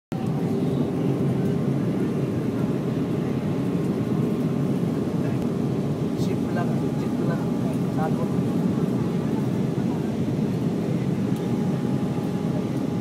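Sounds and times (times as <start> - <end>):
jet airliner cabin drone: 0.1 - 13.0.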